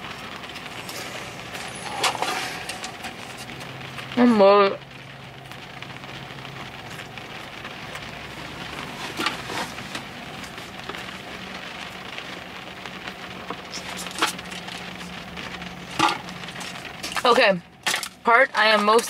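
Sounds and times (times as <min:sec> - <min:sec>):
steady hiss with low hum: 0:00.0 - 0:19.0.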